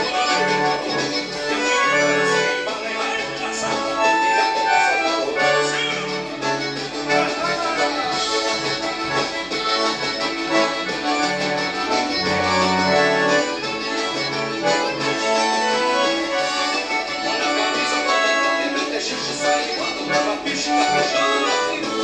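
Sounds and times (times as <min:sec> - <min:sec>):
band music from television: 0:00.0 - 0:22.0
button concertina playing: 0:00.0 - 0:22.0.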